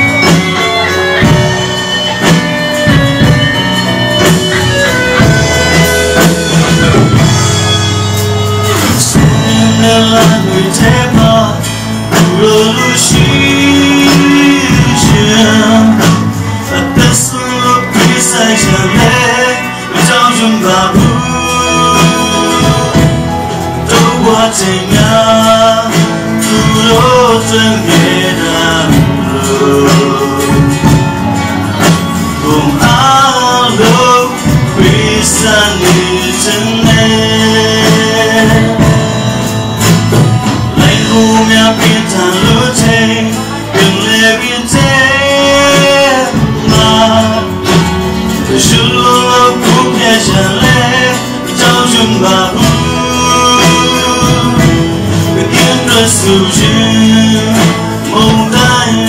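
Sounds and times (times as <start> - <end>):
acoustic guitar: 0.0 - 59.0
electric bass: 0.0 - 59.0
man singing into a microphone: 0.0 - 59.0.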